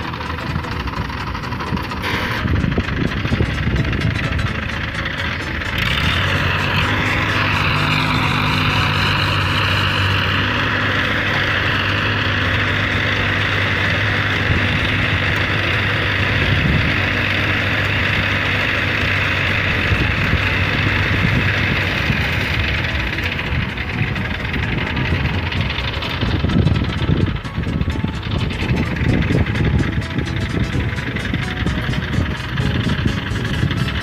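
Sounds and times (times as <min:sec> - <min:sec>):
diesel engine running: 0:00.0 - 0:34.0
high whine: 0:00.0 - 0:34.0.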